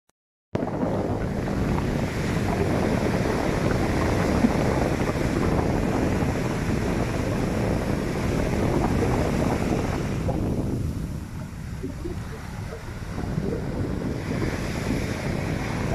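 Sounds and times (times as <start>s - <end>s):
surf breaking on a beach: 0.6s - 15.9s
wind buffeting the microphone: 0.6s - 15.9s.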